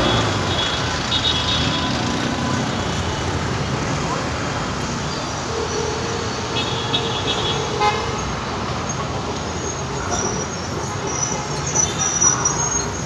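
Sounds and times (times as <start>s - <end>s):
street traffic noise: 0.0s - 13.0s
tram approaching: 0.0s - 13.0s.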